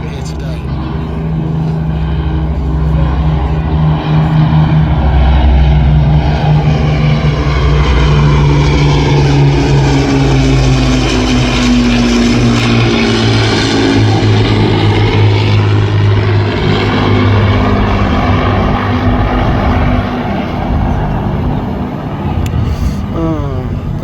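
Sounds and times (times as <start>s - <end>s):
propeller aircraft engines droning: 0.0s - 24.0s.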